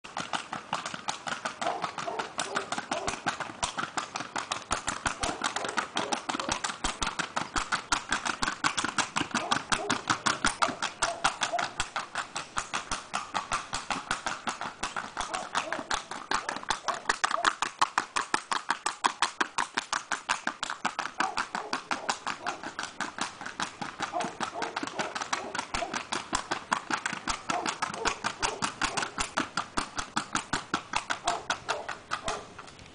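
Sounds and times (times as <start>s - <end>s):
horse hooves on hard ground: 0.0s - 32.9s.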